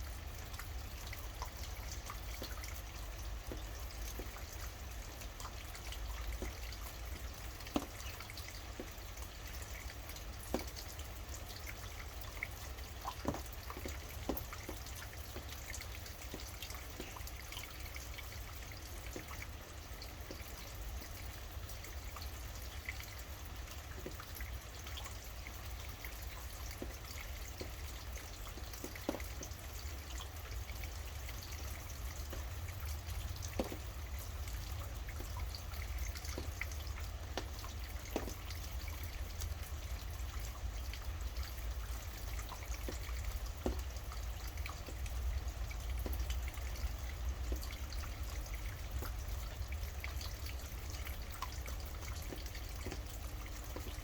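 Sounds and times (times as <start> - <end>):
steady rain: 0.0 - 54.0
water dripping: 0.0 - 54.0.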